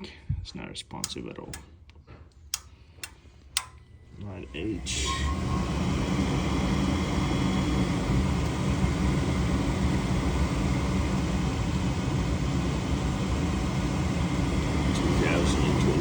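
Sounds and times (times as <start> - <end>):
furnace fan humming: 0.0 - 16.0.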